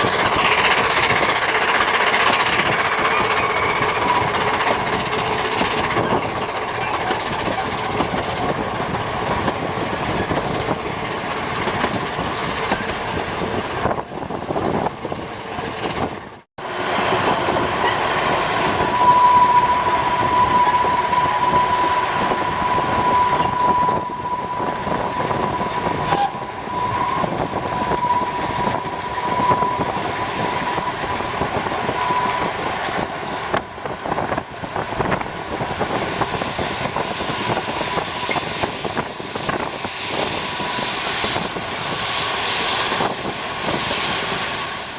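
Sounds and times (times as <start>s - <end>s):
train rumbling and clattering: 0.0s - 44.9s.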